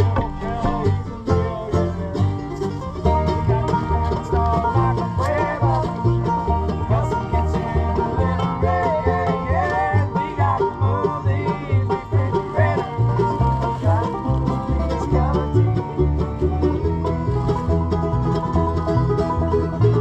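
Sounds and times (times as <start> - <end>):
acoustic guitar: 0.0 - 20.0
banjo rolling: 0.0 - 20.0
bass line: 0.0 - 20.0.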